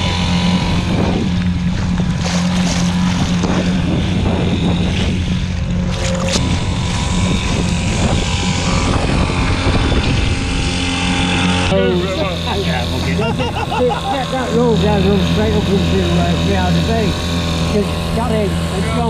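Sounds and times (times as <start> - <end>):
boat motor humming: 0.0 - 19.0
wind buffeting microphone: 0.0 - 19.0.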